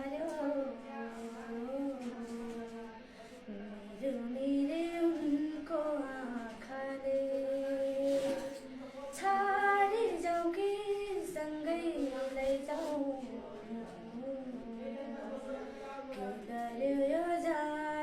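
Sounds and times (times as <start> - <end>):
woman singing unaccompanied: 0.0 - 18.0.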